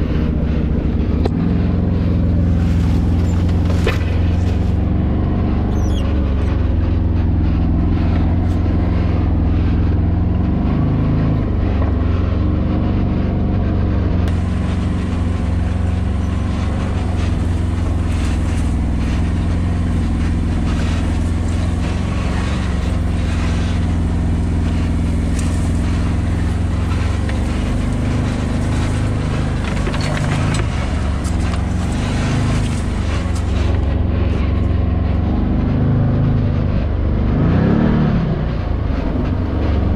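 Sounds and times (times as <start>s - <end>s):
vehicle engine running steadily: 0.0s - 39.9s
grass swishing against vehicle: 0.1s - 36.9s.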